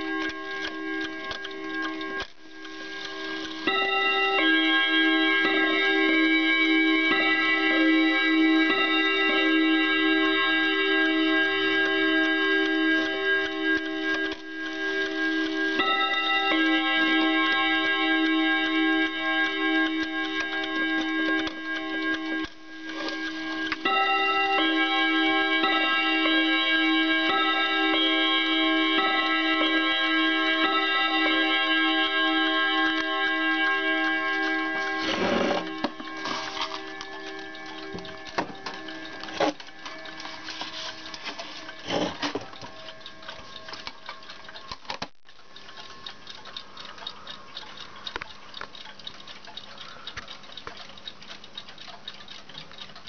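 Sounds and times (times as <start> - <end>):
mantel clock chiming: 0.0 - 53.0.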